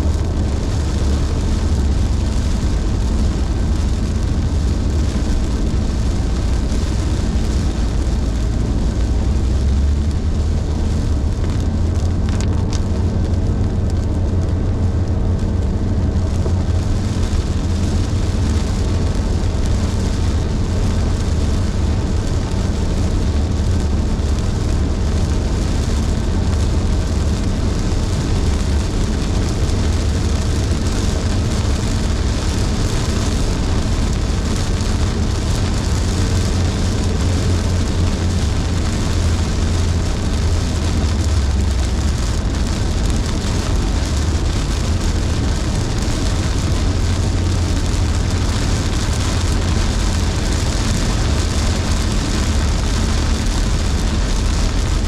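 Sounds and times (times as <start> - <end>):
car road rumble: 0.0 - 55.0
heavy rain: 0.0 - 55.0
tyres hissing on wet road: 0.0 - 55.0.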